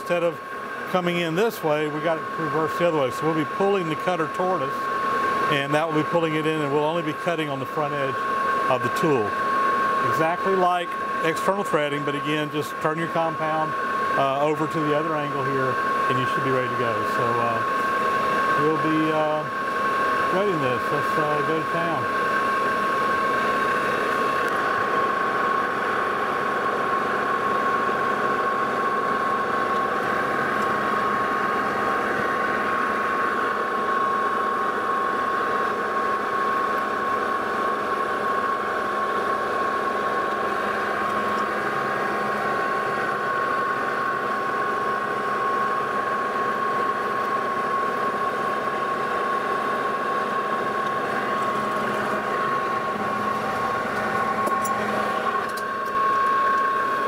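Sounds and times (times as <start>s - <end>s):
metal lathe running with whine: 0.0s - 57.0s.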